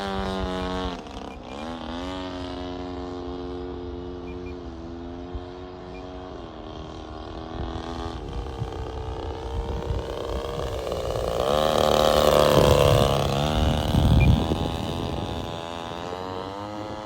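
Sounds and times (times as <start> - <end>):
model plane motor and propeller: 0.0 - 17.0
wind rumble on microphone: 0.0 - 17.0.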